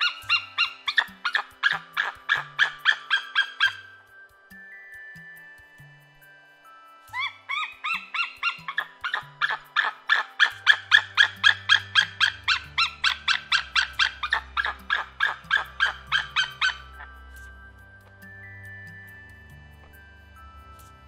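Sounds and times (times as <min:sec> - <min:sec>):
eagle calling sharp notes: 0:00.0 - 0:04.1, 0:07.1 - 0:19.9.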